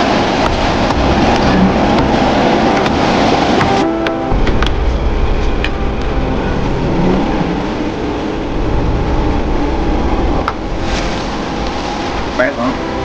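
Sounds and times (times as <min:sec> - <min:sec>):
burners roaring: 0:00.0 - 0:13.0.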